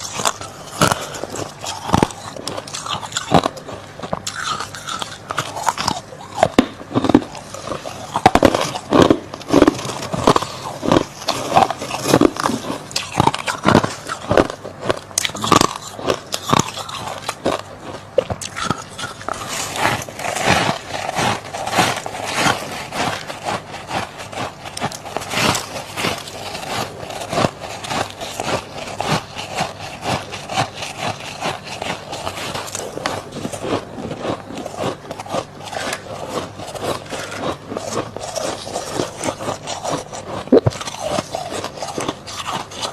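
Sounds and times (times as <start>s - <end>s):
crunching of frost being eaten: 0.0s - 42.9s.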